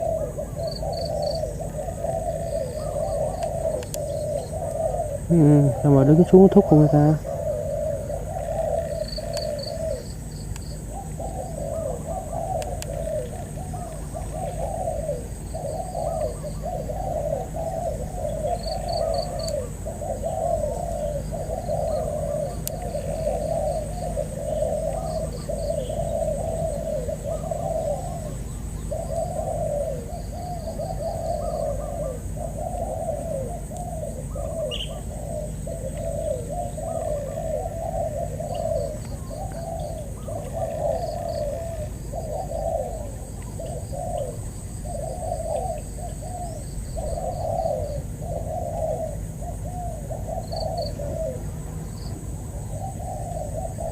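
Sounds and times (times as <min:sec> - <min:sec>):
doves cooing: 0:00.0 - 0:53.9
steady high whine: 0:00.0 - 0:53.9.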